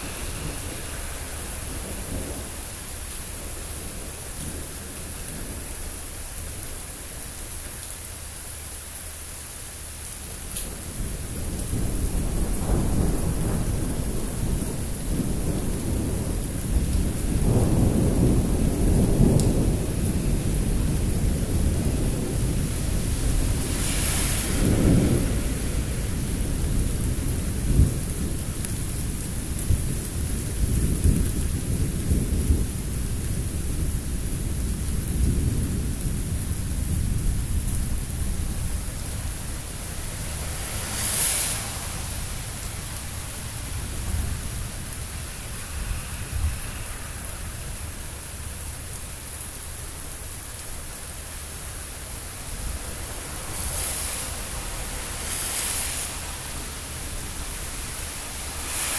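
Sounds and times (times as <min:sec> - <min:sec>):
thunder rumbling: 0:00.0 - 0:06.6, 0:10.7 - 0:58.9
steady rain: 0:00.0 - 0:58.9.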